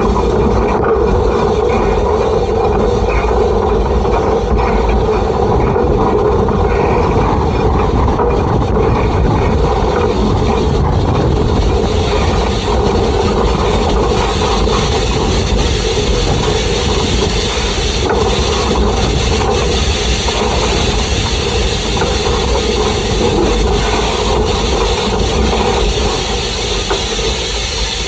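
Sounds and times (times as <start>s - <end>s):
steam hiss: 0.0s - 28.0s
wheels on rails: 0.0s - 28.0s.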